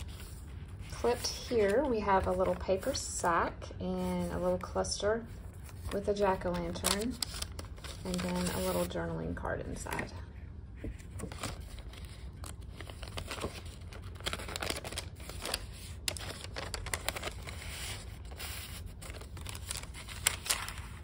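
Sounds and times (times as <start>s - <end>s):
paper rustling and crinkling: 0.0s - 3.0s, 5.3s - 9.0s, 10.8s - 21.0s.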